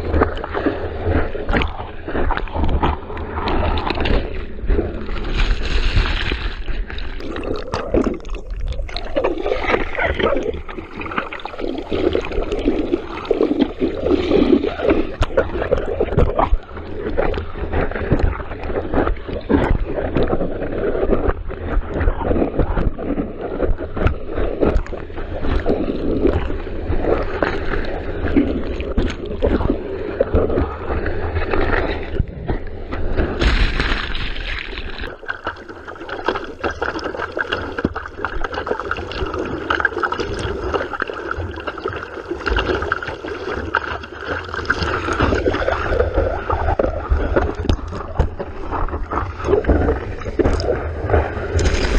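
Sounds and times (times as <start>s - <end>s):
sea water sloshing and splashing: 0.0s - 51.9s.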